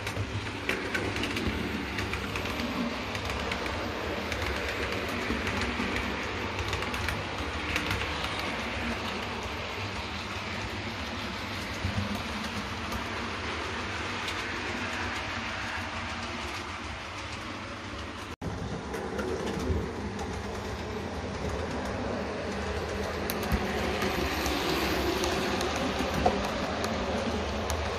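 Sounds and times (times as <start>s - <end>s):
light clicks of track: 0.0s - 27.9s
model train wheels rumbling on track: 0.0s - 27.9s.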